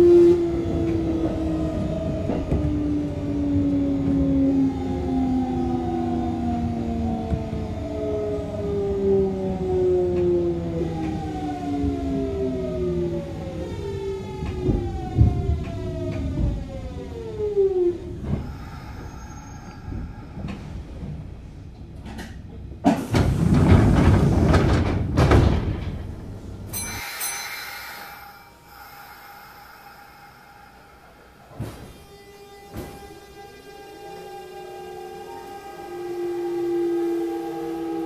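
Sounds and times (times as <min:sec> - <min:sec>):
train inverter whining: 0:00.0 - 0:22.4, 0:26.7 - 0:38.0
train rumble and clatter: 0:00.0 - 0:38.0.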